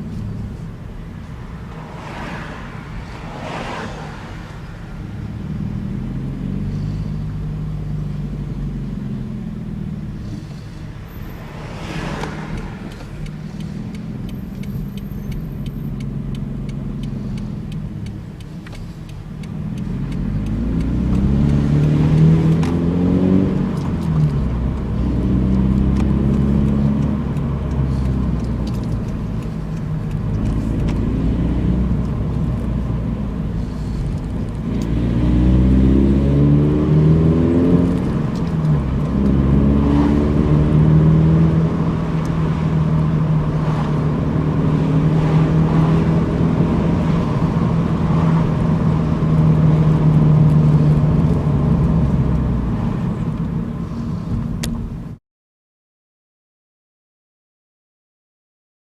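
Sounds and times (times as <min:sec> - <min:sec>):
car engine accelerating: 0:00.0 - 0:55.2.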